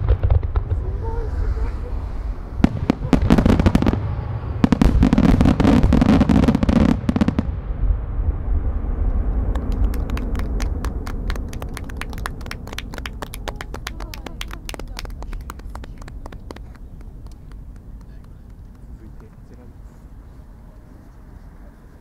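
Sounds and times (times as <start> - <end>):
fireworks crackling: 0.0 - 7.6, 9.0 - 20.2
fireworks bursting with deep rumble: 0.0 - 20.2.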